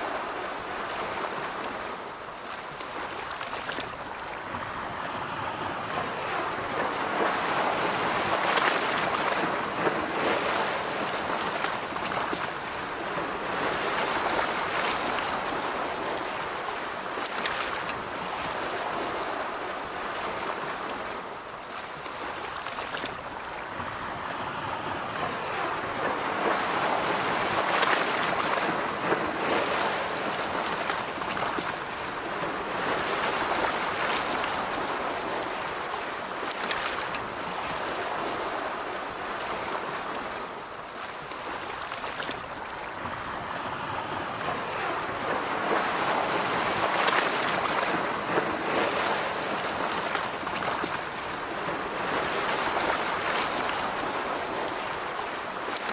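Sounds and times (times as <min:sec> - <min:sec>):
surf breaking on a beach: 0:00.0 - 0:55.9
wind: 0:00.0 - 0:55.9.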